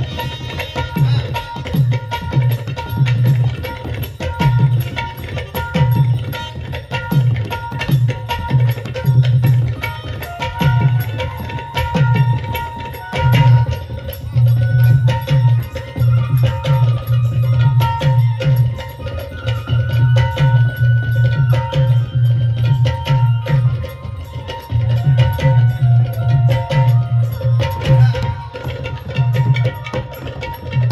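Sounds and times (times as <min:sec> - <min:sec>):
hand drum fast rhythm: 0:00.0 - 0:30.9.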